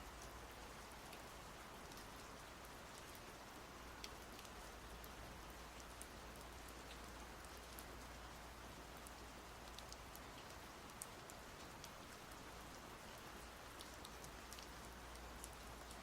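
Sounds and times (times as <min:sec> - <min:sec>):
soft rain hiss: 0:00.0 - 0:16.0.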